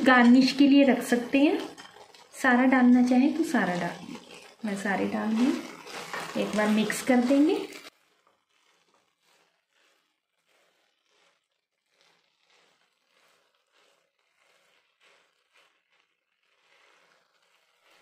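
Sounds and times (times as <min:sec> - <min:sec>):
spatula scraping in a pan: 0:00.0 - 0:18.0.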